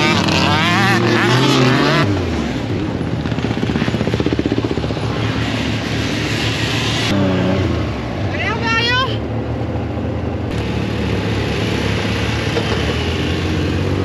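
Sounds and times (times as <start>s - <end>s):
buggy engine revving and idling: 0.0s - 14.0s.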